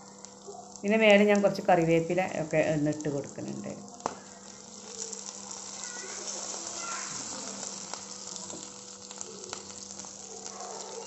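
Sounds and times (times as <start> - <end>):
fish sizzling in oil: 0.0 - 11.0
leaves crackling in oil: 0.0 - 11.0.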